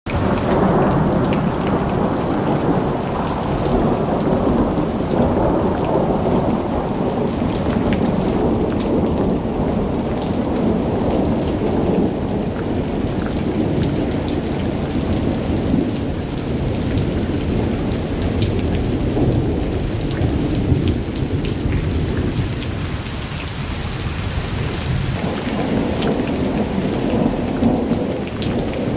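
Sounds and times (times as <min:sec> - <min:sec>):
heavy rain pouring: 0:00.1 - 0:28.9.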